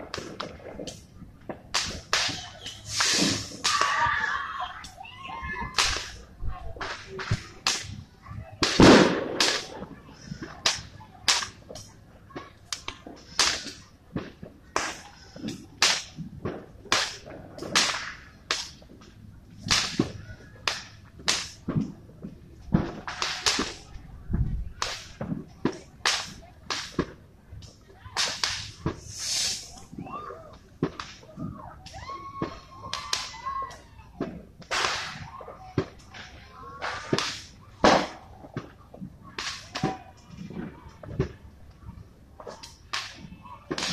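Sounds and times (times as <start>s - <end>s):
fireworks bangs and cracks: 0.0s - 43.9s.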